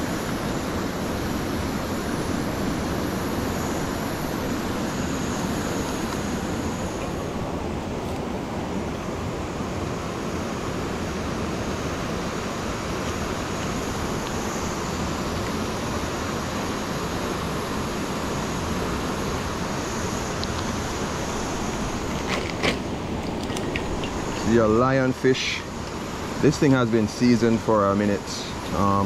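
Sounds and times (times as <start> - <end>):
river flowing over rocks: 0.0 - 26.8.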